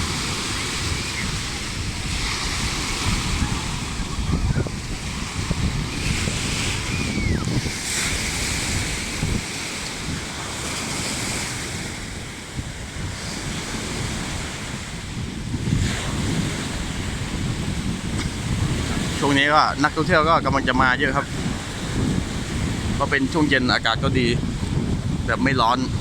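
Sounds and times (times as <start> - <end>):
sea waves breaking on beach: 0.0 - 26.0
wind buffeting microphone: 0.0 - 26.0.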